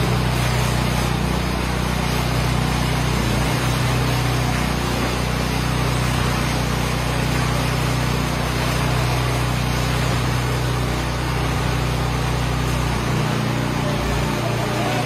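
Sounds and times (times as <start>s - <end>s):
concrete buggy engine running: 0.0s - 15.0s.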